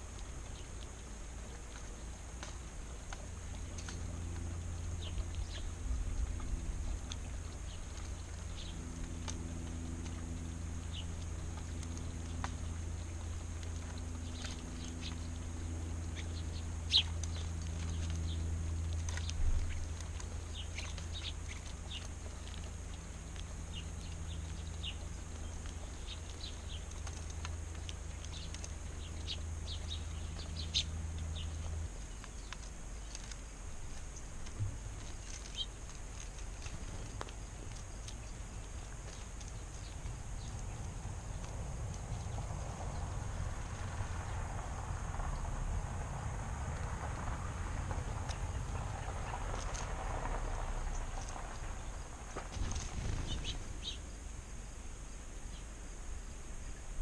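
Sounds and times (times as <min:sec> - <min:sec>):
small birds chirping: 0:00.0 - 0:57.0
steady low hum: 0:00.0 - 0:57.0.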